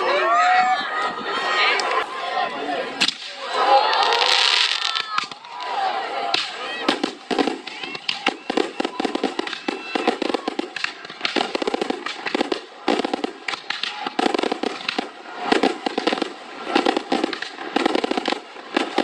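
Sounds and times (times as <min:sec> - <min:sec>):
fireworks bursting and crackling: 0:03.0 - 0:19.0.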